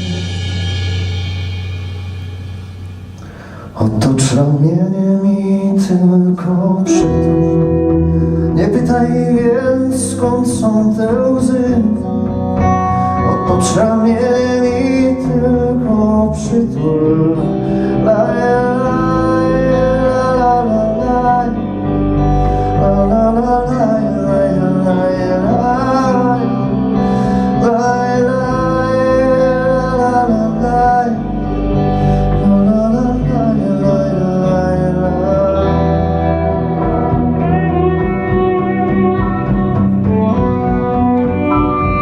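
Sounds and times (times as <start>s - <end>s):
sliding melodic lead line: 0.0s - 42.0s
acoustic guitar accompaniment: 3.1s - 42.0s.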